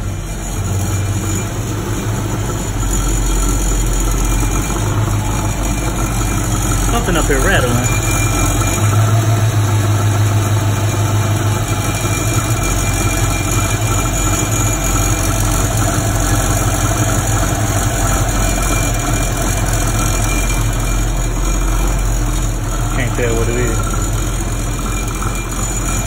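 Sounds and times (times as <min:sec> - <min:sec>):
car engine idling: 0:00.0 - 0:26.0
engine rattle: 0:00.0 - 0:26.0.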